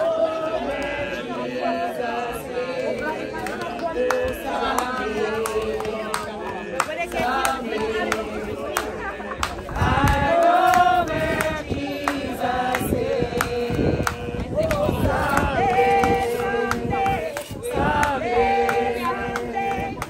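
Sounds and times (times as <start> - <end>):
crowd singing a hymn: 0.0 - 20.0.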